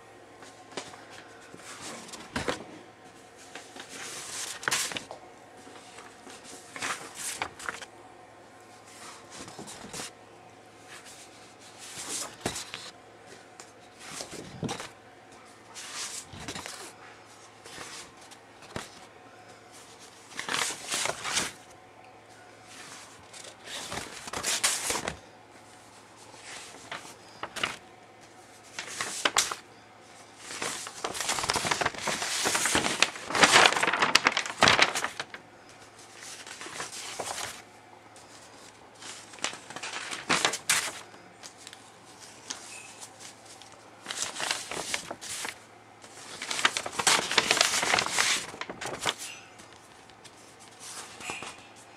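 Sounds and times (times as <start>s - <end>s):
paper rustling and crinkling: 0.4s - 2.7s, 3.4s - 7.9s, 8.8s - 10.1s, 10.8s - 15.0s, 15.7s - 19.1s, 19.7s - 21.6s, 22.6s - 37.6s, 38.2s - 51.9s.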